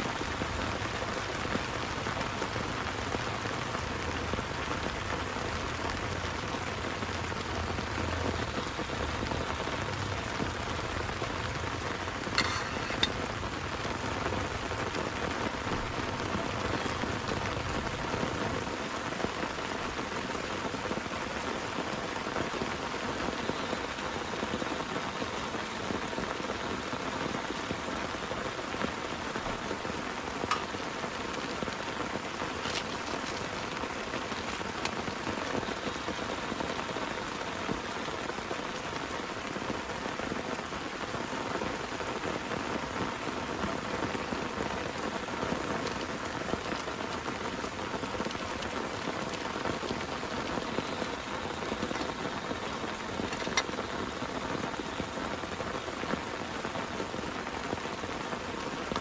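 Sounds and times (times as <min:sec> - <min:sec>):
heavy rain: 0:00.0 - 0:59.0
raindrops ticking sharply: 0:00.0 - 0:59.0.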